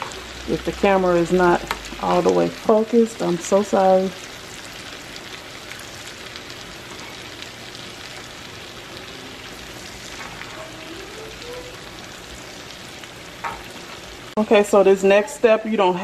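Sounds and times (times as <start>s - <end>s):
butter sizzling in a frying pan: 0.0s - 16.0s.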